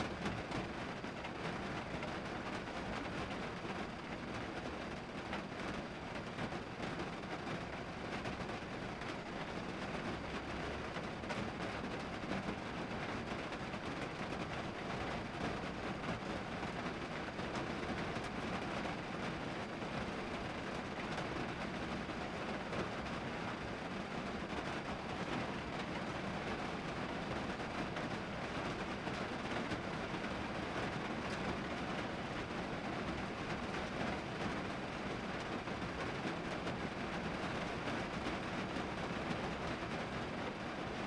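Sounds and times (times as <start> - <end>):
rain on car roof: 0.0 - 41.0.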